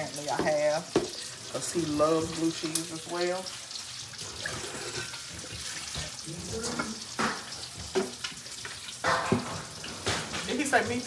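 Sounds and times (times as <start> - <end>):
bacon sizzling in a skillet: 0.0 - 11.0.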